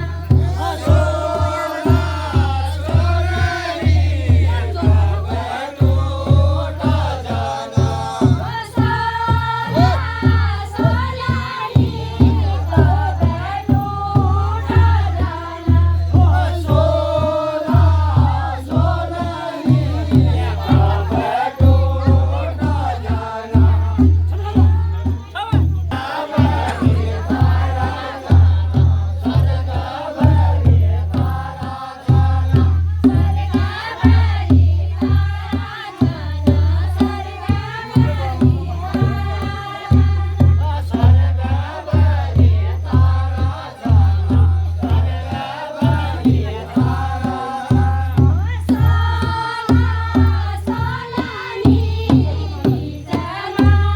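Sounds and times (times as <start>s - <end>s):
group of voices singing: 0.0s - 53.9s
repeating drum beat: 0.0s - 53.9s.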